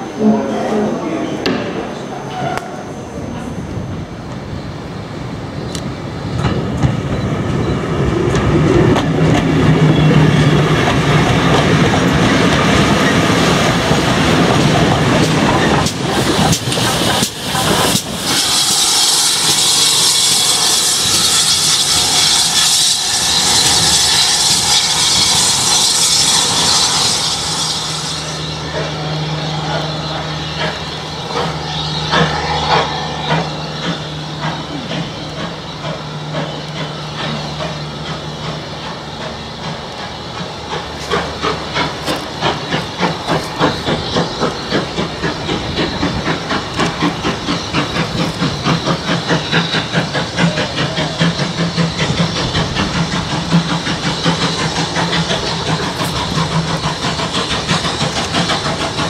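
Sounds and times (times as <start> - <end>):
steam locomotive exhaust beats: 0.0 - 59.0
steam locomotive hiss: 8.3 - 59.0.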